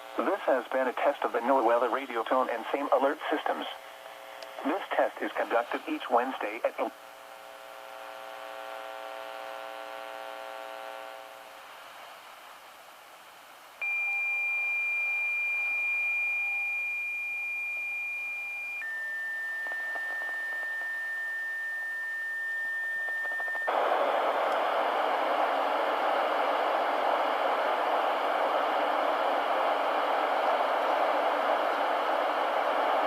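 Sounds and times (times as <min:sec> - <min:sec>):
static hiss: 0:00.0 - 0:13.8, 0:19.6 - 0:33.0
buzzy hum: 0:02.8 - 0:33.0.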